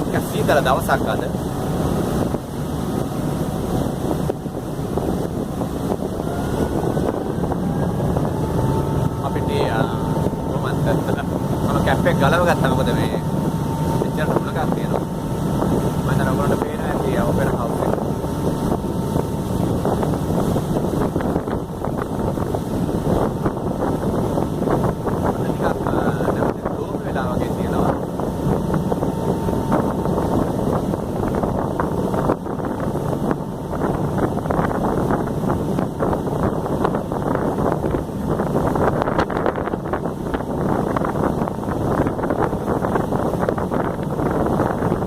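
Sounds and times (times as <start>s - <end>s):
ferry engine rumbling: 0.0s - 45.0s
water: 0.0s - 45.0s
wind on microphone: 0.0s - 45.0s.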